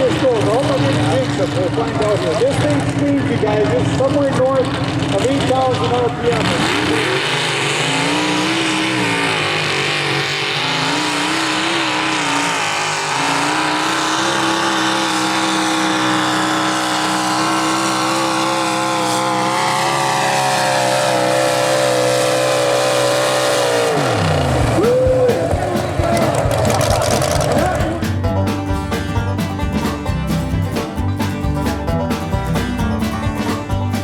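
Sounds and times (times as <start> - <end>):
engine screaming at high revs: 0.0 - 34.0.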